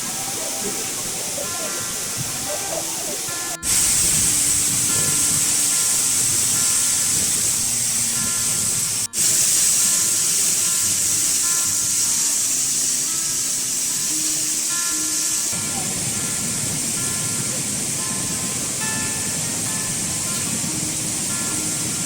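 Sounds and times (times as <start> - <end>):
rushing water: 0.0 - 22.0
soft background music: 0.0 - 22.0.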